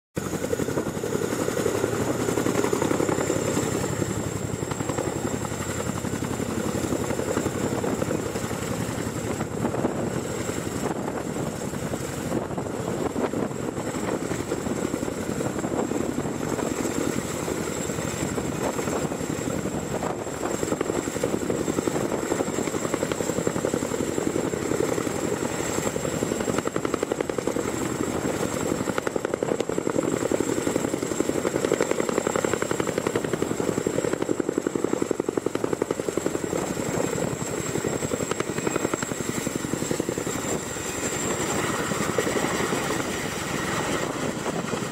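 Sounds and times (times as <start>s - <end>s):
helicopter rotors beating: 0.2s - 44.9s
high turbine whine: 0.2s - 44.9s.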